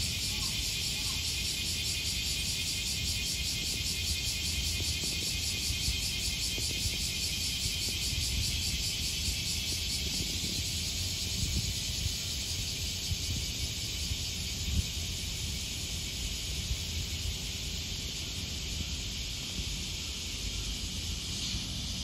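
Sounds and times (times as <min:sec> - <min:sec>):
high-pitched pulsing hiss: 0:00.0 - 0:22.0.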